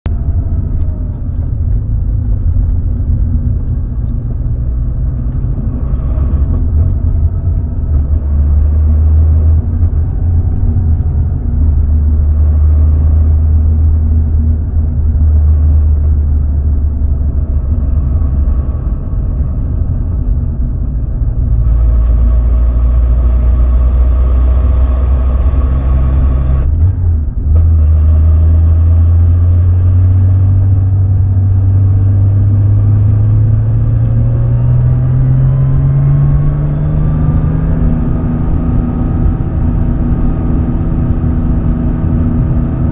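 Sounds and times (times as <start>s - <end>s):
motor vehicle engine rumbling: 0.0s - 42.9s.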